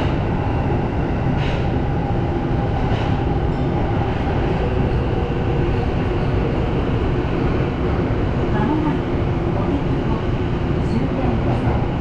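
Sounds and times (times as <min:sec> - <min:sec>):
subway train rumbling on track: 0:00.0 - 0:12.0.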